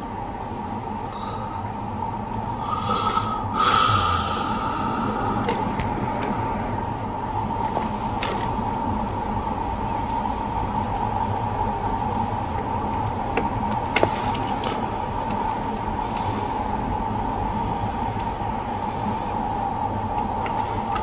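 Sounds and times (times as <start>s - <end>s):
car interior hum and rumble: 0.0s - 21.0s.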